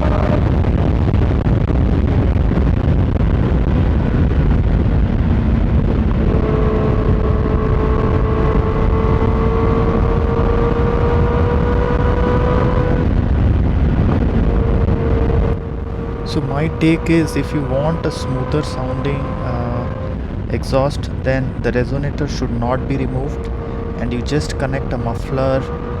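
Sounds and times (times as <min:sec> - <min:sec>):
exhaust droning tone: 0:00.0 - 0:26.0
motorcycle engine at speed: 0:00.0 - 0:26.0.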